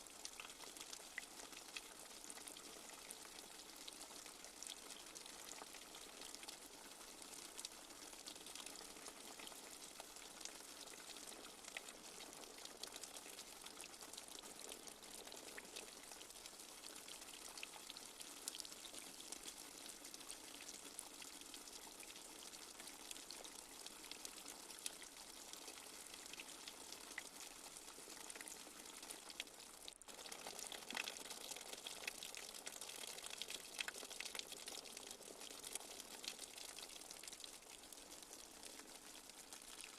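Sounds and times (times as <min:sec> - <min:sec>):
water drips ticking: 0:00.2 - 0:06.8, 0:10.4 - 0:39.9.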